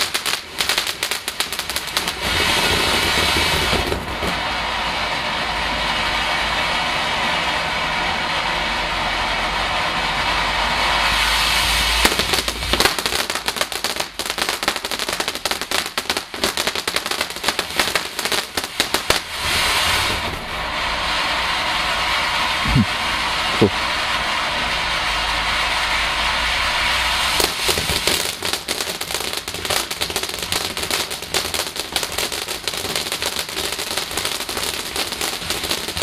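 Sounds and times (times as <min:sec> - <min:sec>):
fountain firework hissing and crackling: 0:00.0 - 0:36.0.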